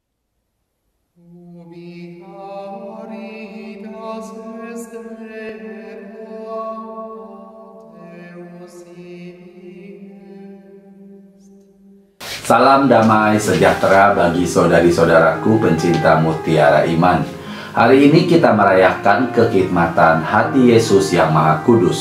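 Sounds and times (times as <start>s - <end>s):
slow chanted singing: 1.2s - 22.0s.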